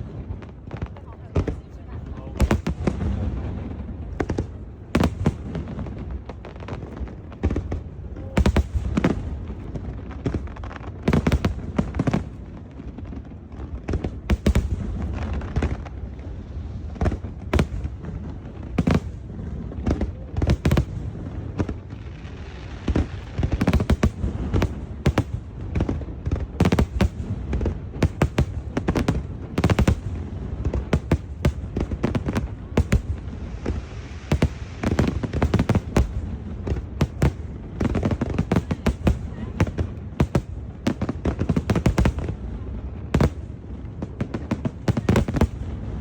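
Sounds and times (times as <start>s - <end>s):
fireworks bangs and pops: 0.0s - 46.0s.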